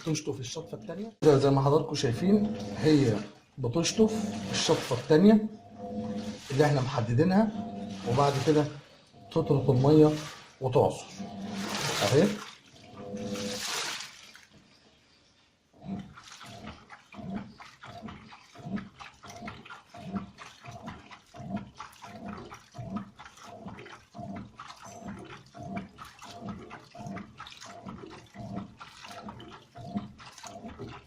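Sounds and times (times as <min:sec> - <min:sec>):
washing machine agitating: 0:00.0 - 0:15.0, 0:15.7 - 0:31.0
water sloshing: 0:00.0 - 0:31.0.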